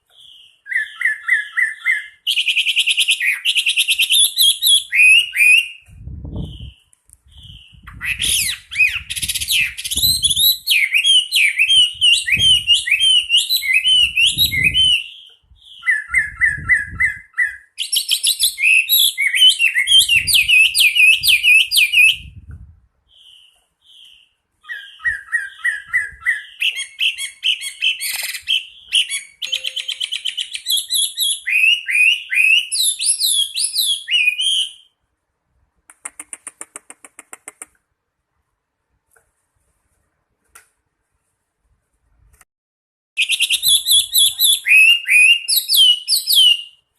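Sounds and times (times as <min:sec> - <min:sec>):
bird singing whistled trills: 0:00.2 - 0:22.4, 0:23.1 - 0:35.0, 0:43.2 - 0:46.8.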